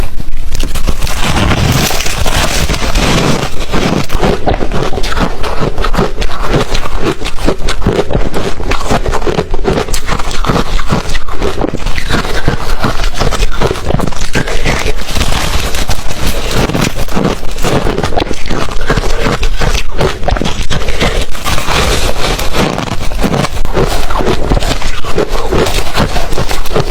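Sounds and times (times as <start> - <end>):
ice being chewed: 0.0 - 26.9.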